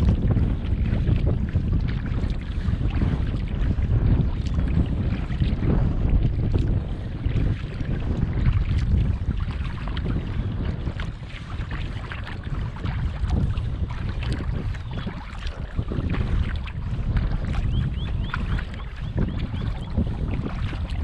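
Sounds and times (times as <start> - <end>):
paddle splashes and drips: 0.0 - 21.0
wind buffeting microphone: 0.0 - 21.0.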